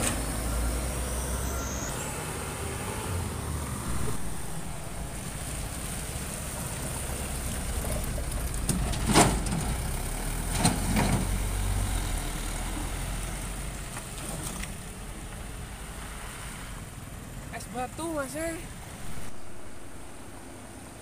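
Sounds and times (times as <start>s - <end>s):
trucks driving past on rough road: 0.0s - 21.0s.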